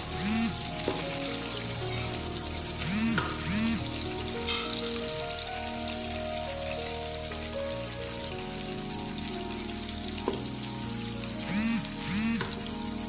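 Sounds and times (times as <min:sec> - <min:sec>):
background music: 0:00.0 - 0:13.0
onions sizzling in oil: 0:00.0 - 0:13.0.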